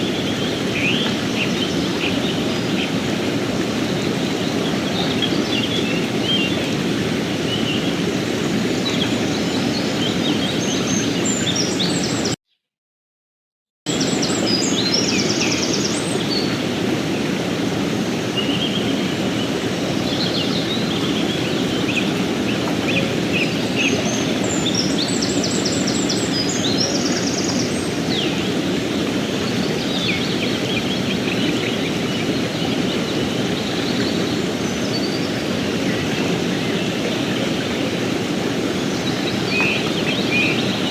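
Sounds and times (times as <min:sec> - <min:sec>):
river water rushing: 0:00.0 - 0:12.4, 0:13.9 - 0:40.9
songbirds chirping and trilling: 0:00.0 - 0:12.4, 0:13.9 - 0:40.9.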